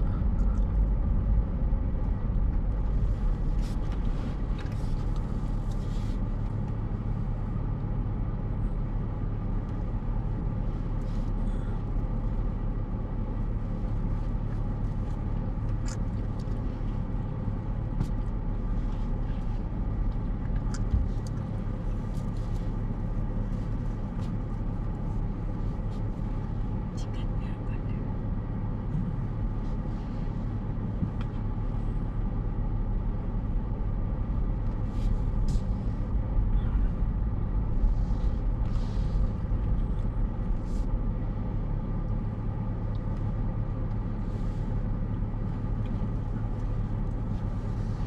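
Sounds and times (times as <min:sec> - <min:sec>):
car engine hum inside cabin: 0:00.0 - 0:48.0.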